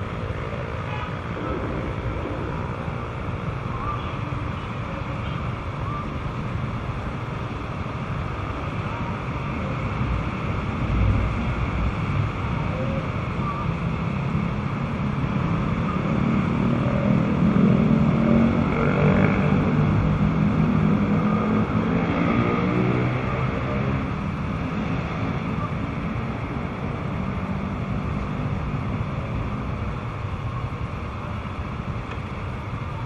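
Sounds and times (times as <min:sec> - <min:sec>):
street and wind noise: 0:00.0 - 0:33.0
vehicle engine: 0:00.0 - 0:33.0.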